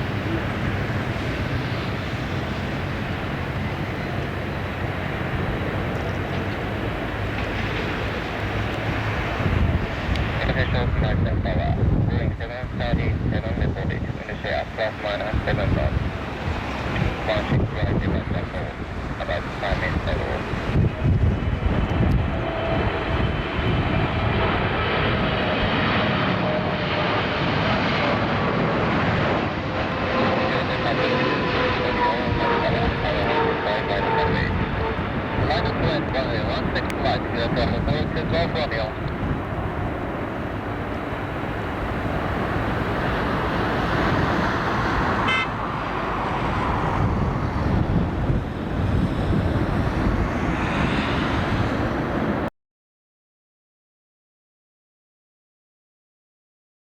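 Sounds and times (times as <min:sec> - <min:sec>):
wind buffeting microphone: 0:00.0 - 0:25.6, 0:31.8 - 0:52.5
jet engines with whine: 0:00.0 - 0:52.5.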